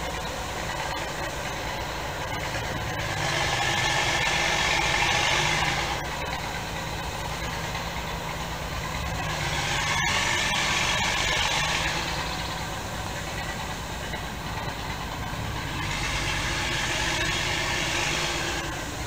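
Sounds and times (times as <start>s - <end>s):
old engine idling: 0.0s - 19.0s
rushing noise: 0.0s - 19.0s.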